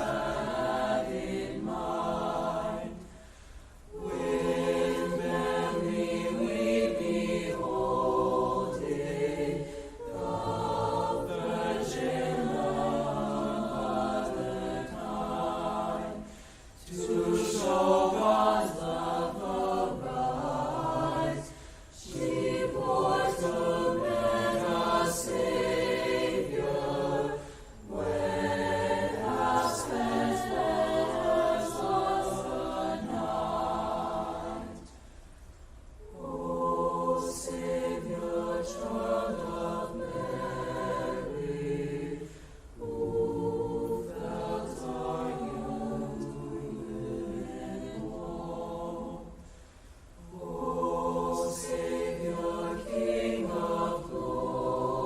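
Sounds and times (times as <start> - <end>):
choir singing: 0.0 - 35.0, 36.0 - 49.4, 50.2 - 55.0.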